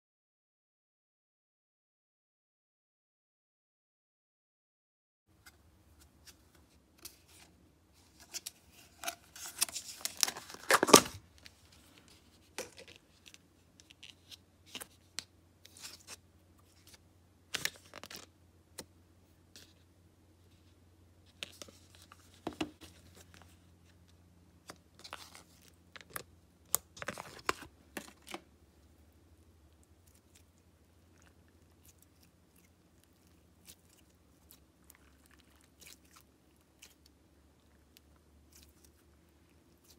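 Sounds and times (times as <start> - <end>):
faint low hum: 5.3 - 39.9.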